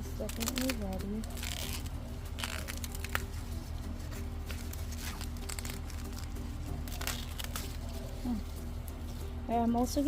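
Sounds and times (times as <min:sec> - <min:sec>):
crisp rustles: 0:00.1 - 0:10.0.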